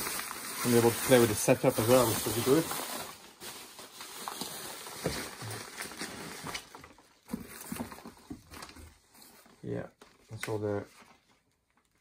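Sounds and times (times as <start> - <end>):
bubble wrap and cardboard crinkling: 0.0 - 12.0.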